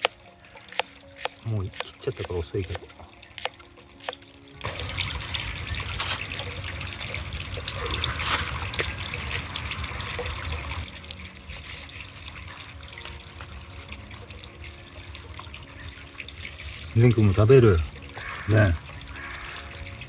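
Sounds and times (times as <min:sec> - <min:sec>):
garlic sizzling in hot oil: 0:00.0 - 0:20.0
small crackles: 0:00.0 - 0:20.0.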